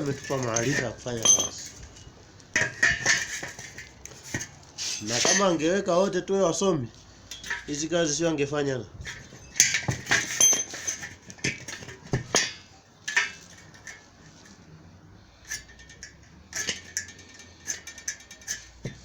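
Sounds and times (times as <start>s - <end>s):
metal tools clinking: 0.0s - 6.3s, 7.2s - 8.2s, 8.9s - 19.0s.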